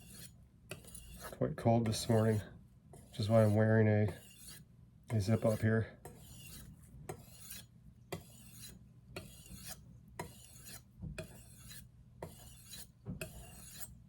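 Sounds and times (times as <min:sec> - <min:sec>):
knife rasping on sharpening stone: 0:00.0 - 0:14.0.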